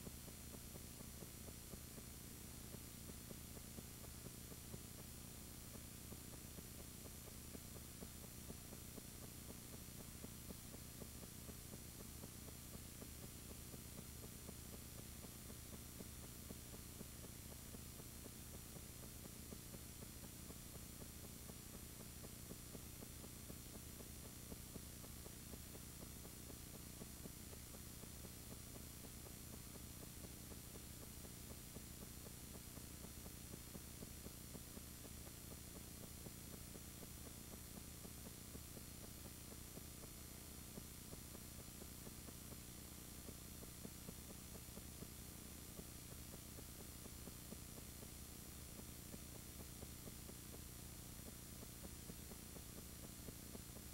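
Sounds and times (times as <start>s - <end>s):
faint steady hiss: 0.0s - 53.9s
low electrical hum: 0.0s - 53.9s.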